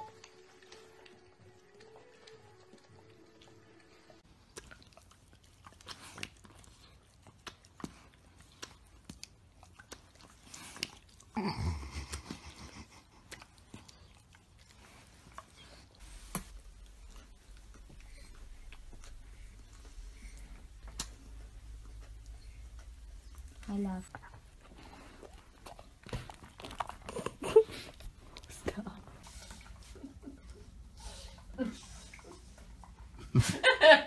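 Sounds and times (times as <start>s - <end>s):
tongue and mouth clicks: 0.0s - 3.6s, 4.3s - 33.3s
dog licking with wet slurps: 0.1s - 11.4s, 13.1s - 33.3s.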